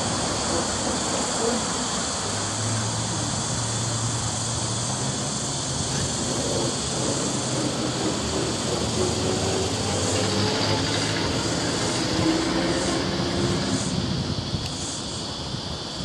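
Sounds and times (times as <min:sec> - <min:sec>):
road traffic drone: 0:00.0 - 0:16.0
truck engine driving away: 0:00.3 - 0:14.3.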